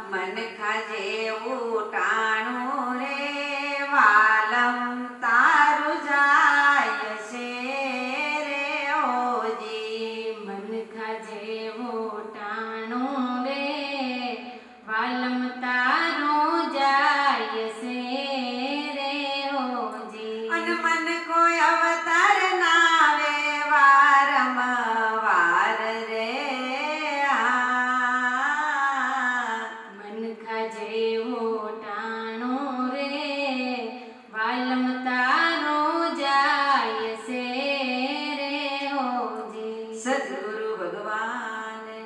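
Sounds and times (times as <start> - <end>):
women singing devotional song: 0.0 - 42.0.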